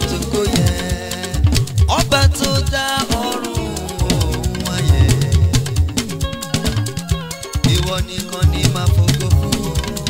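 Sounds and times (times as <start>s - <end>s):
instrumental gospel band music: 0.0s - 10.0s.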